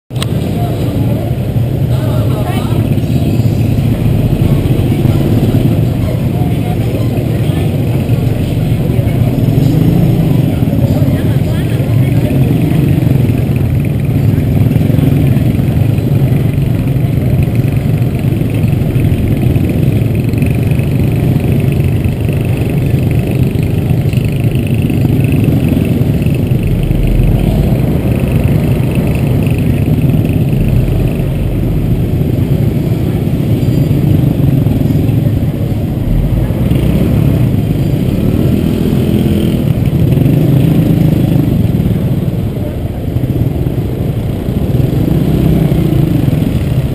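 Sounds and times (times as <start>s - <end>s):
motorbike engines running: 0.1s - 46.9s
engine revving: 2.8s - 42.4s, 43.5s - 46.9s.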